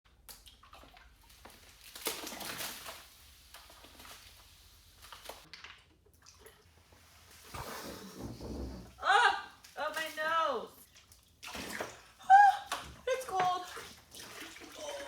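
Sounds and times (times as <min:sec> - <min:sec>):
liquid splashing and pouring: 0:00.1 - 0:08.6, 0:09.6 - 0:15.0.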